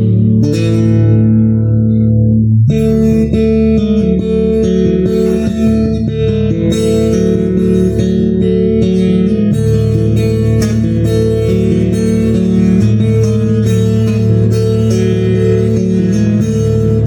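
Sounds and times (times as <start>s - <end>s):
bass line: 0.0s - 17.0s
picked guitar notes: 0.0s - 17.0s.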